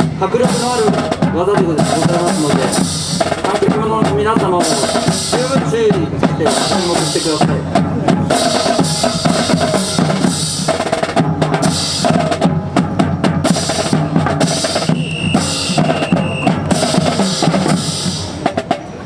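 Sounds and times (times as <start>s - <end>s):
marching snare and bass drums: 0.0s - 19.0s.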